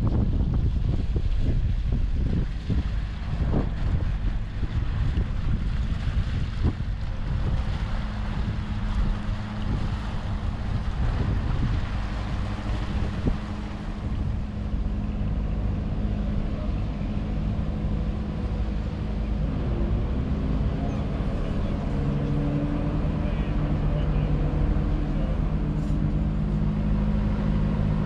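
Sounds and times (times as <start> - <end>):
boat diesel engine droning: 0.0 - 28.0
wind on microphone: 0.0 - 28.0.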